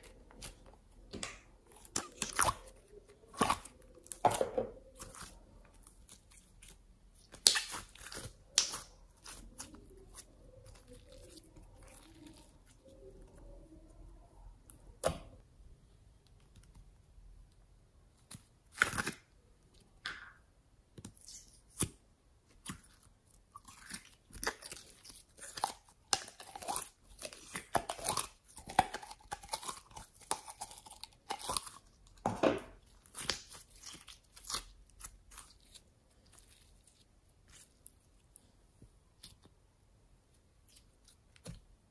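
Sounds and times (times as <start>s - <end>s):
sticky slime crackles: 0.0s - 13.8s, 18.0s - 19.8s, 20.9s - 39.6s, 40.2s - 41.9s.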